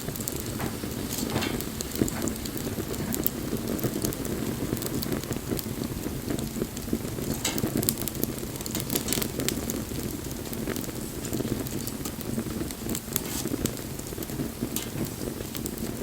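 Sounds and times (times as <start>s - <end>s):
fire crackling and popping: 0.0s - 16.0s
flames rushing: 0.0s - 16.0s.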